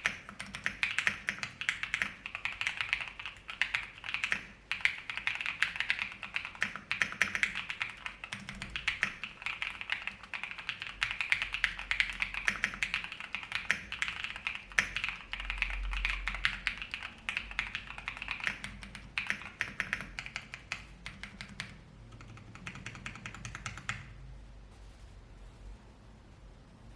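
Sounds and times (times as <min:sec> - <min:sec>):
mechanical keyboard typing: 0:00.0 - 0:24.2.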